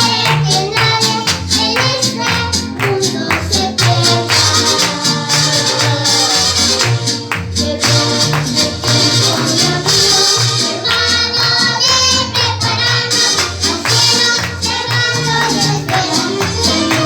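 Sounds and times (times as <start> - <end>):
percussive beat: 0.0 - 17.0
person singing: 0.0 - 17.0.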